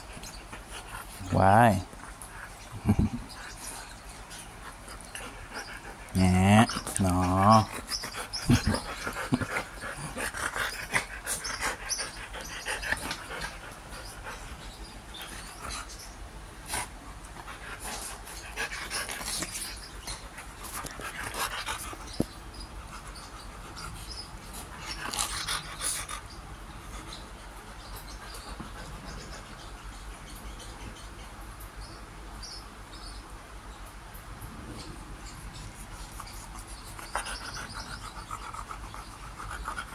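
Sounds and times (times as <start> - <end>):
dogs panting: 0.0 - 31.1, 35.6 - 39.9.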